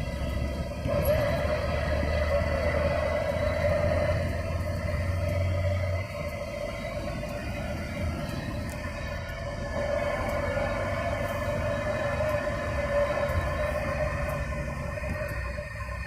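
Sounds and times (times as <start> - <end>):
road noise: 0.0 - 16.0
truck engine running: 0.0 - 16.0.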